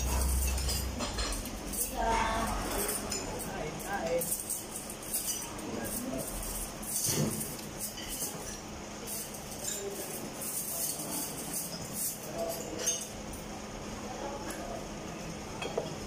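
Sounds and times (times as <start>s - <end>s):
cutlery clinking against plates: 0.0s - 13.5s, 15.6s - 16.0s.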